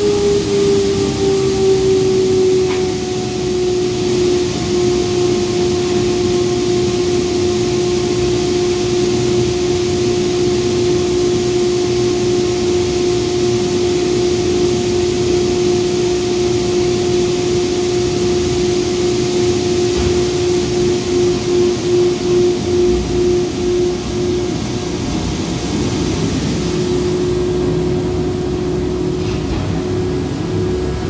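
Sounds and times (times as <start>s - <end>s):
blower hum: 0.0s - 31.0s
blower rushing air: 0.0s - 31.0s.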